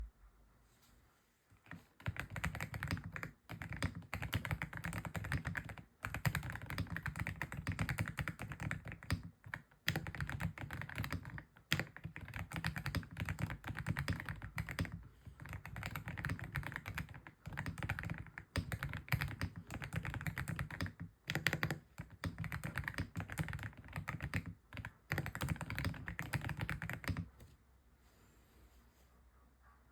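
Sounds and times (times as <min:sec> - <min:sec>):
mechanical keyboard typing: 0:01.7 - 0:27.5.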